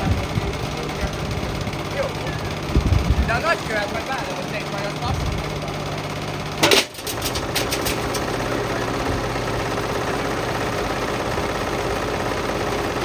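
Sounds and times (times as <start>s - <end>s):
washing machine rumbling and rattling: 0.0s - 13.0s.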